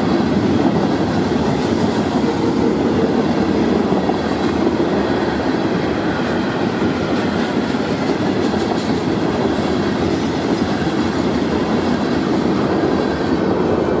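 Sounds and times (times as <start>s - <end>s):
steel train wheels rumbling on rails: 0.0s - 14.0s.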